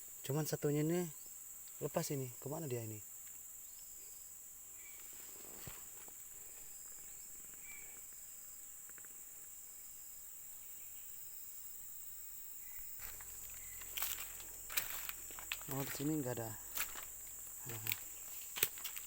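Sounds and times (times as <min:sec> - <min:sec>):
forest insects droning: 0:00.0 - 0:19.0
rustle: 0:00.0 - 0:19.0.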